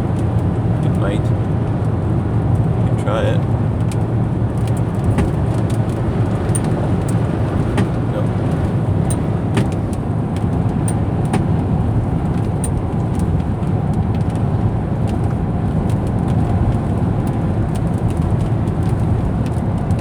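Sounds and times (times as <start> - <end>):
car driving rumble inside cabin: 0.0 - 20.0.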